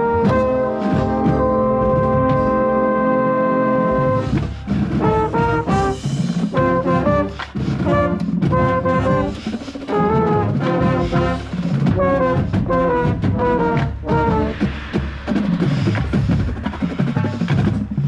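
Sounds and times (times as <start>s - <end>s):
drumline playing: 0.0s - 18.0s
marching band brass: 0.0s - 18.0s.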